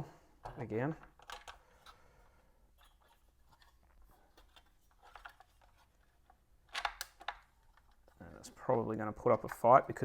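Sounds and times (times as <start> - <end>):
faint clicks and scrapes of parts: 0.4 - 8.6.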